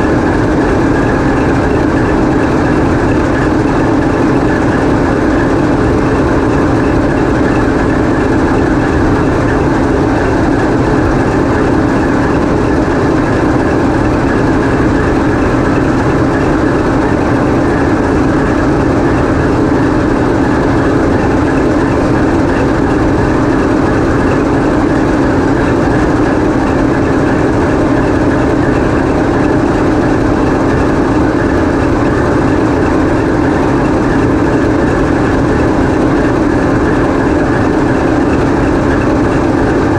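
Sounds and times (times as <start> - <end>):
locomotive diesel engine running: 0.0 - 39.9.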